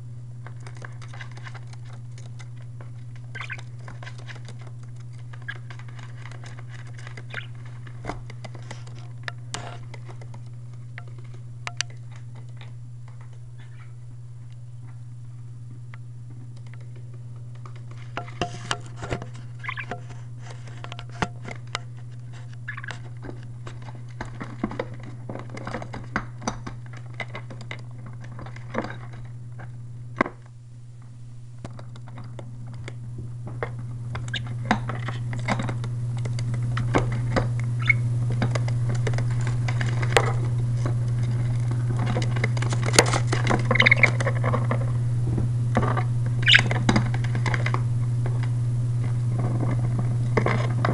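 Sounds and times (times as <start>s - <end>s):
steady low hum: 0.0s - 50.9s
budgies scratching and pecking: 0.4s - 14.0s, 16.6s - 29.8s, 33.6s - 50.9s.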